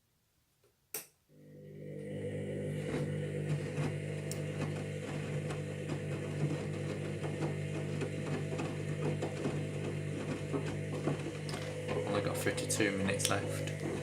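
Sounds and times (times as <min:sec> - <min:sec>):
washing machine motor hum: 0:01.3 - 0:14.0.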